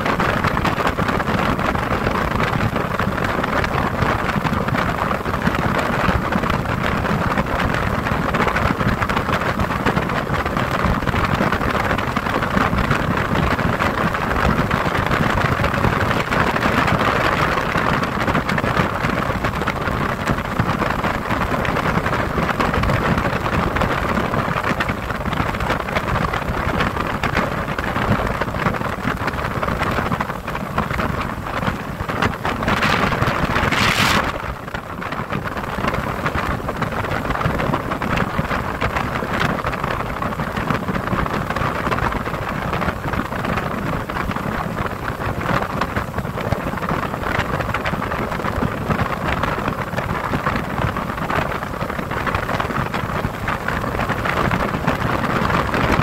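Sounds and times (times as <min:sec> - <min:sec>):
motorboat water noise: 0:00.0 - 0:56.0
wind on microphone: 0:00.0 - 0:56.0.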